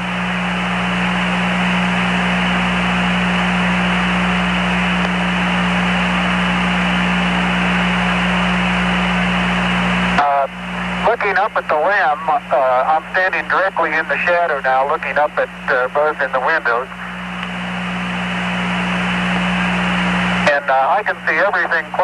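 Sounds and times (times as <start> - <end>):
low hum: 0.0 - 22.0
radio static hiss: 0.2 - 22.0.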